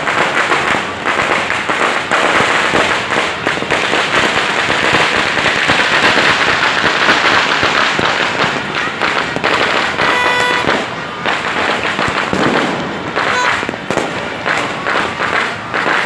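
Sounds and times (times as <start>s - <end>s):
firecrackers crackling: 0.0s - 16.0s.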